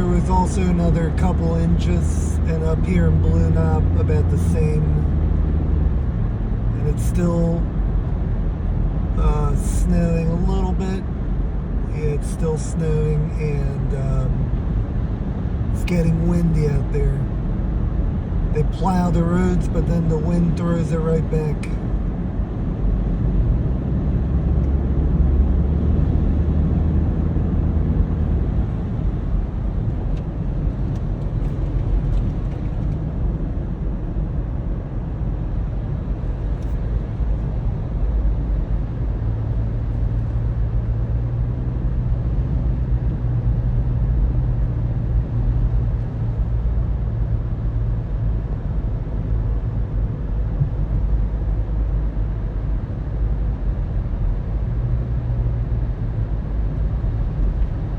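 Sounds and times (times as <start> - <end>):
car engine hum: 0.0 - 57.9
road rumble: 0.0 - 57.9.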